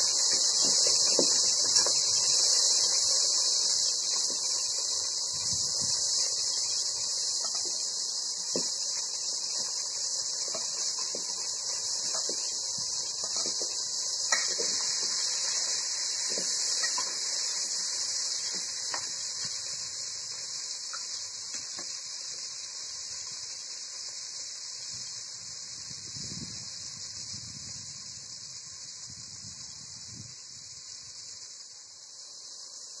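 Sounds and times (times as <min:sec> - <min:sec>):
gas burner hiss: 0:00.0 - 0:33.0.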